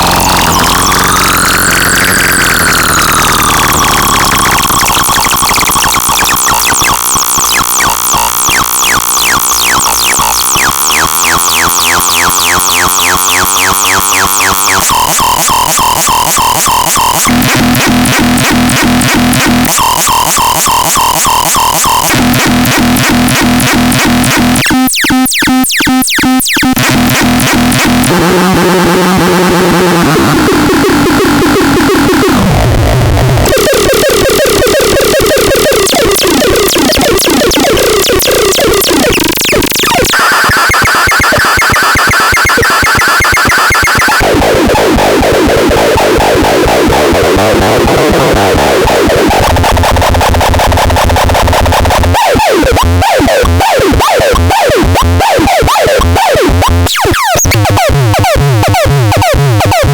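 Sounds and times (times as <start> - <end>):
harsh synthesizer buzzing: 0.0 - 59.9.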